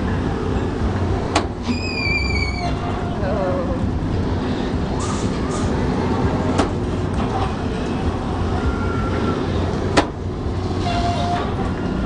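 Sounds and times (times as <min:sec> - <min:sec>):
carnival ride rumbling: 0:00.0 - 0:12.0.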